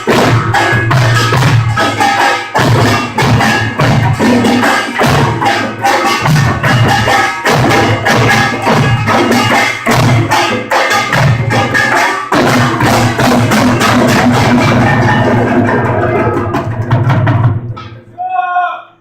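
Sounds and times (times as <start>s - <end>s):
drums and small gongs: 0.0s - 18.8s.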